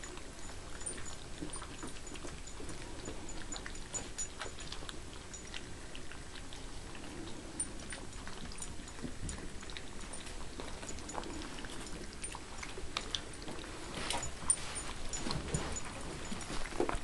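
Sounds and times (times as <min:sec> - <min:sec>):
puppies lapping and chewing food: 0:00.0 - 0:17.0.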